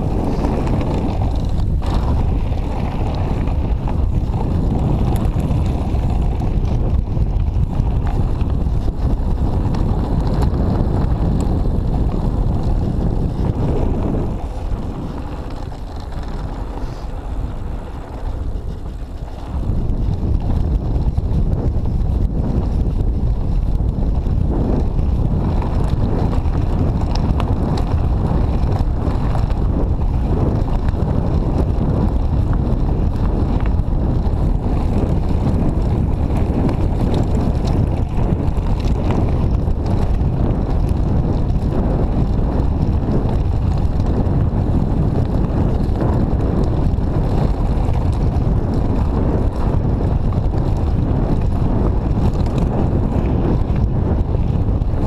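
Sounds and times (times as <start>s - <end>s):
bike clicks and rattles: 0.0s - 55.0s
tyres rumbling on gravel: 0.0s - 55.0s
wind buffeting microphone: 0.0s - 55.0s.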